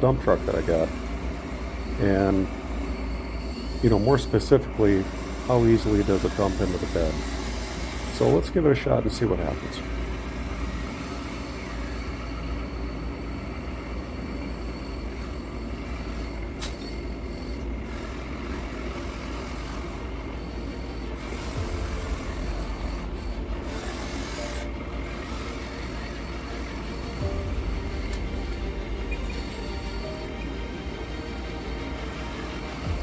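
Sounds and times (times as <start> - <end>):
hydraulic hiss: 0.0 - 12.2, 16.0 - 33.0
hydraulic pump running with whine: 0.0 - 33.0.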